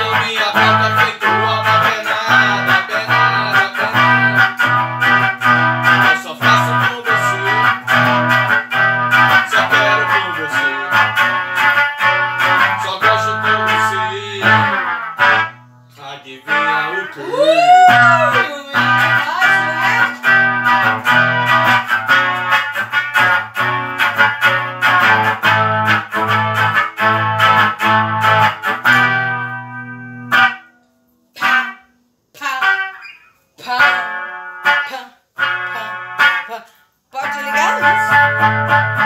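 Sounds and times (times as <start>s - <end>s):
electric guitar through amplifier: 0.0s - 31.9s, 32.6s - 36.5s, 37.2s - 39.0s.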